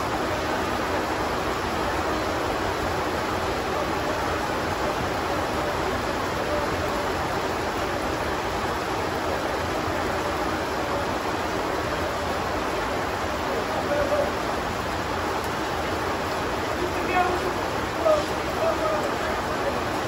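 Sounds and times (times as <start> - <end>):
heavy rain on a metal roof: 0.0 - 20.0.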